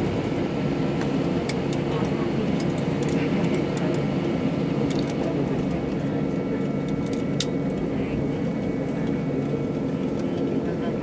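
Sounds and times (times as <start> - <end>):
jet engines humming with whine: 0.0 - 11.0.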